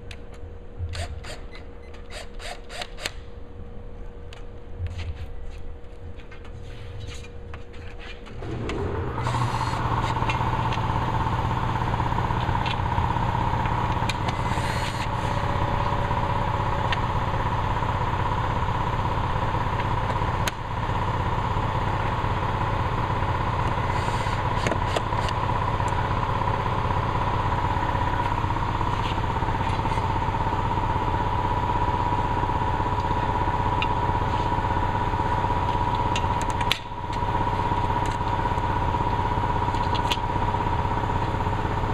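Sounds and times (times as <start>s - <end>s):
machine motor humming and whining: 8.3s - 41.9s.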